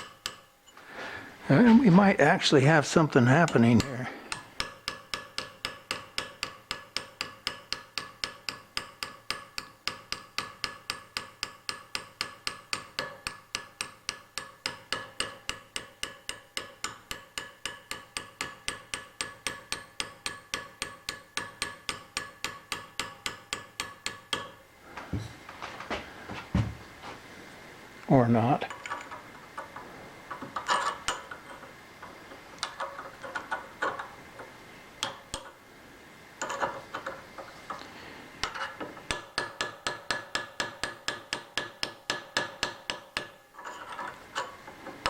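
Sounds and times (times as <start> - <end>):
hammer tapping metal chisel: 0.0 - 0.5, 3.0 - 24.6, 28.6 - 35.6, 36.4 - 45.0.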